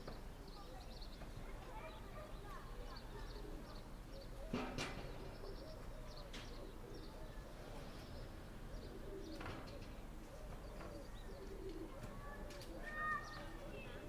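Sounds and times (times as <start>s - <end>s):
small birds chirping: 0.0s - 14.0s
doves cooing: 1.9s - 14.0s.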